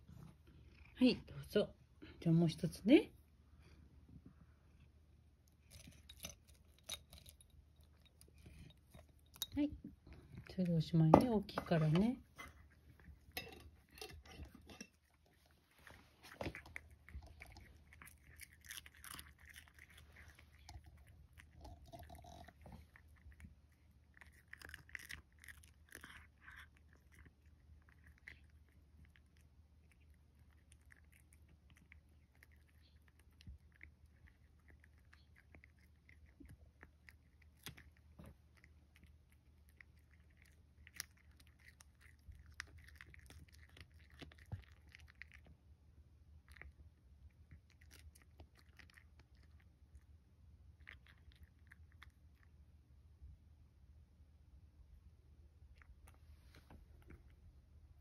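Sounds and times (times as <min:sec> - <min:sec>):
cat crunching dried fish: 0:04.7 - 0:52.8.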